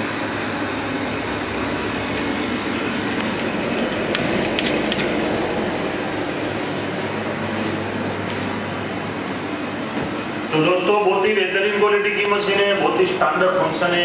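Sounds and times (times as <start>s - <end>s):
slush machine mechanical hum: 0.0s - 14.0s.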